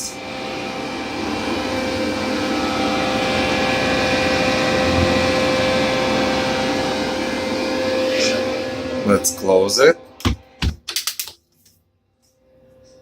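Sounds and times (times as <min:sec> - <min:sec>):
vacuum truck machine drone: 0:00.0 - 0:10.8.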